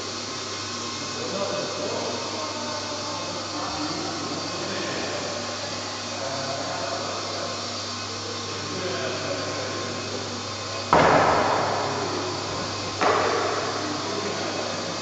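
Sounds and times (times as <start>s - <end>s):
hall hum and hiss: 0.0s - 15.0s.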